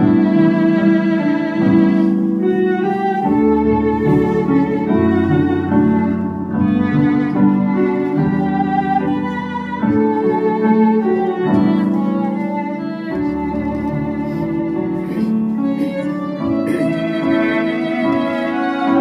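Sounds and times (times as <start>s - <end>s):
violins and cellos playing hymn: 0.0s - 19.0s.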